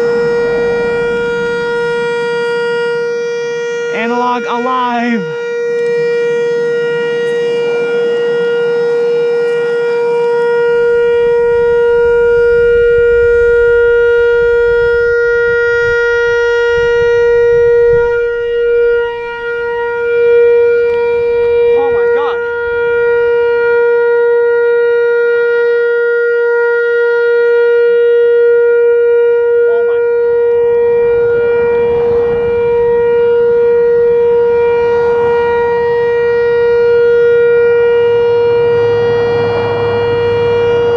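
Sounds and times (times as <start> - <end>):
steady warning siren tone: 0.0 - 40.9.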